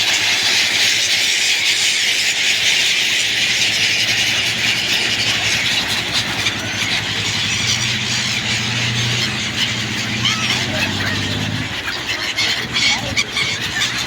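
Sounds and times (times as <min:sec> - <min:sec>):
flock of birds chattering: 0:00.0 - 0:14.0.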